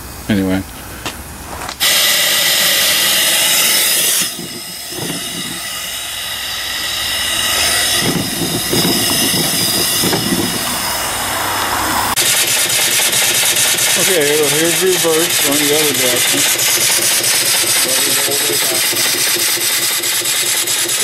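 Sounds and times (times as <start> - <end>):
steam hissing: 0.0 - 21.0
steam engine knocking and clatter: 1.8 - 11.4, 12.1 - 21.0.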